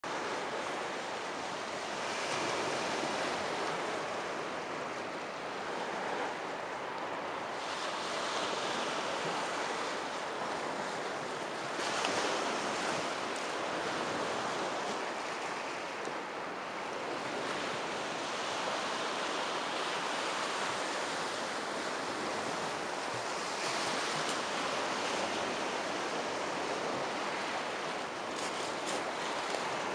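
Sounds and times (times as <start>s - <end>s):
sea waves washing onto shore: 0.1s - 29.9s.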